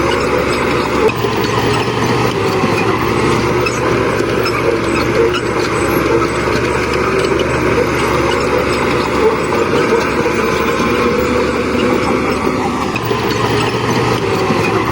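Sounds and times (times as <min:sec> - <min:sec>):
diesel machinery engine running: 0:00.0 - 0:14.9.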